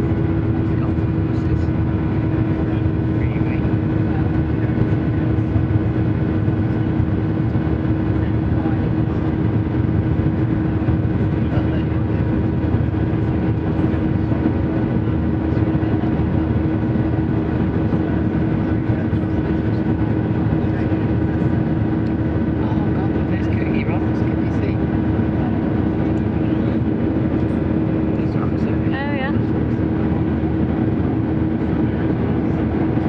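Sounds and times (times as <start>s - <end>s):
jet engine drone: 0.0s - 33.0s
steady cabin hum: 0.0s - 33.0s.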